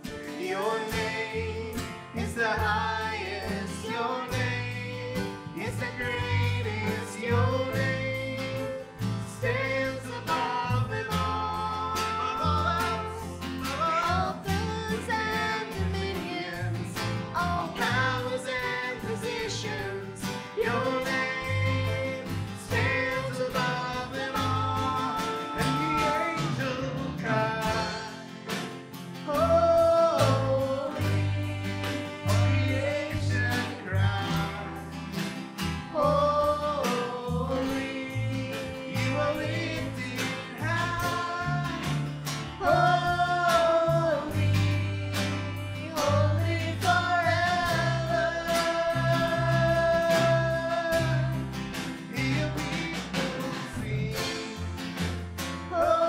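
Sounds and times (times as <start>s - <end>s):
electric bass guitar: 0.0s - 56.0s
piano: 0.0s - 56.0s
strummed acoustic guitar: 0.0s - 56.0s
voices singing: 0.4s - 28.3s, 29.3s - 35.0s, 35.9s - 54.6s.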